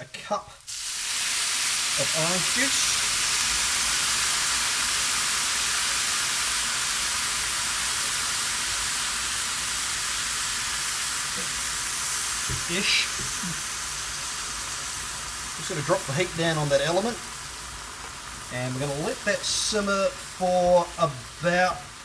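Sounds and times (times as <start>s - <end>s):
vegetables sizzling in a hot pan: 0.0s - 22.0s.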